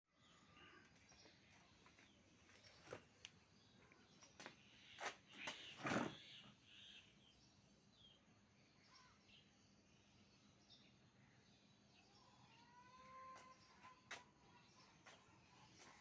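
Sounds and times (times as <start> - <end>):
faint bird chirps: 0.1 - 16.0.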